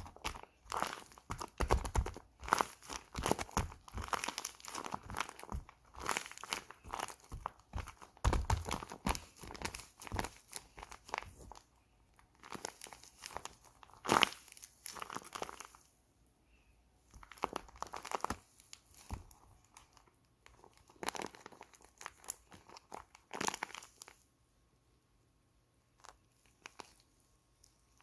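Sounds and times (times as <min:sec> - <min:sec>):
plastic tape crinkling: 0:00.0 - 0:15.9, 0:17.1 - 0:24.2, 0:26.0 - 0:28.0.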